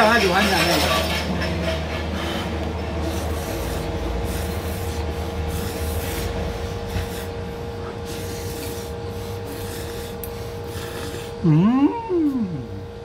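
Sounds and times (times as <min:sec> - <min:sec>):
low hum: 0:01.1 - 0:13.0.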